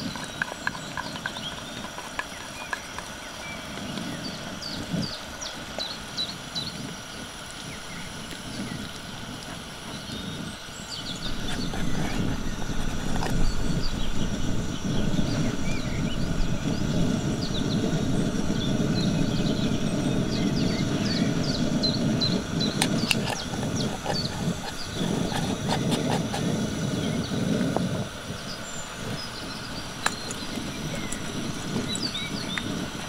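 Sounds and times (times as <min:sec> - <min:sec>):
gas stove burner rumbling: 0:00.0 - 0:33.0
small birds chirping: 0:00.0 - 0:33.0
stew simmering: 0:00.0 - 0:33.0.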